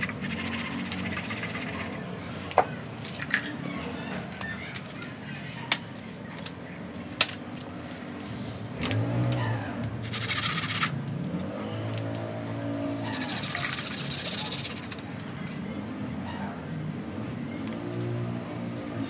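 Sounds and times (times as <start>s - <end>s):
vehicle engine: 0.0s - 5.0s, 6.4s - 19.0s.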